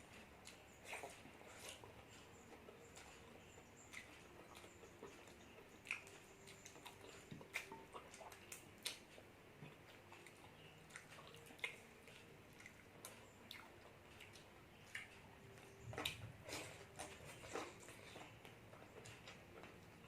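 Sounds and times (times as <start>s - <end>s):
chewing and mouth smacks: 0.0s - 20.0s.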